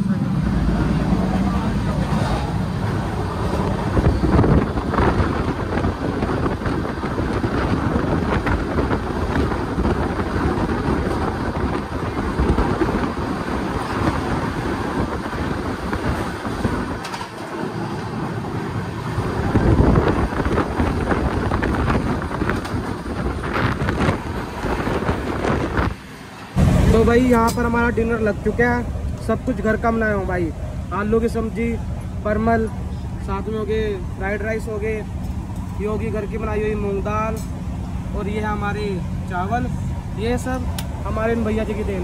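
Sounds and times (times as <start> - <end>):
rushing wind and rain: 0.0 - 42.0
train wheels rumbling on track: 0.0 - 42.0.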